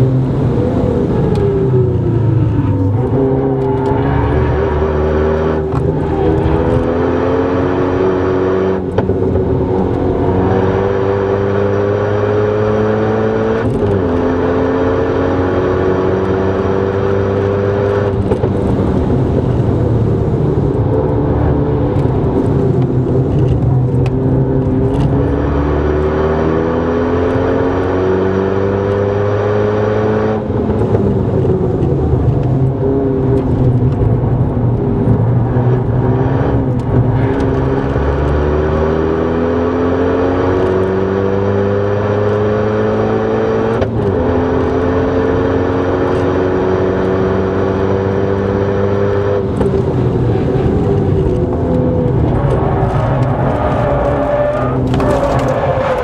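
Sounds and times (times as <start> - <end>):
car engine accelerating: 0.0 - 56.0
gear changes: 0.0 - 56.0.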